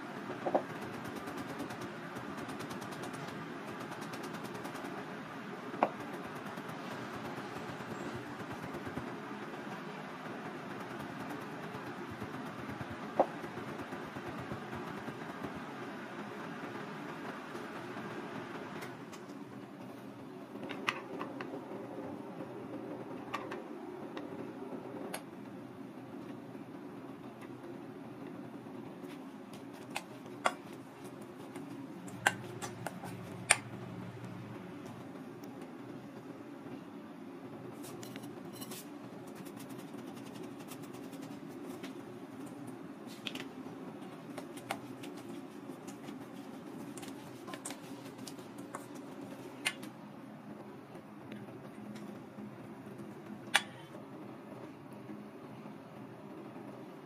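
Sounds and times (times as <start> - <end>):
low background hum: 0.0 - 57.0.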